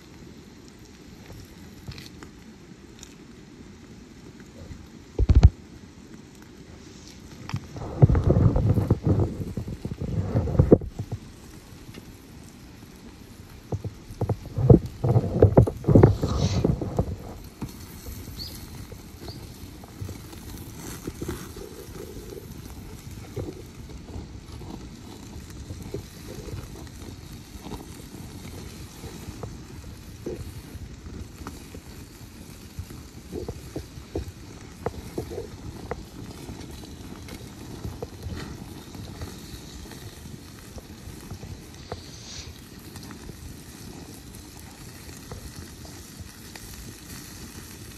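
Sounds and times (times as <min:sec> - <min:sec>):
campfire crackling: 0:00.0 - 0:47.9.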